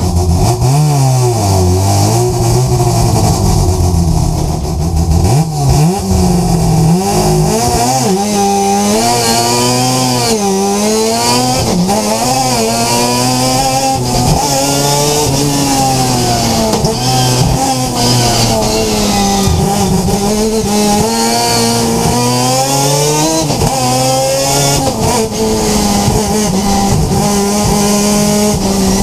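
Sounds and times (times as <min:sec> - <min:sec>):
rotary engine at full throttle: 0:00.0 - 0:29.0.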